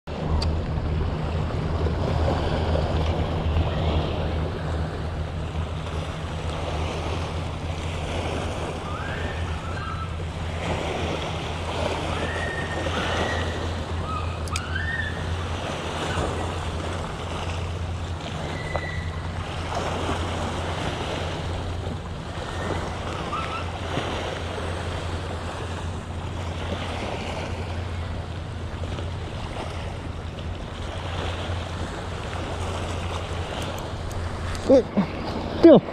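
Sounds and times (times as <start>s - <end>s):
steady low rumble: 0.0s - 35.9s
waves lapping on rocky seawall: 0.1s - 35.9s.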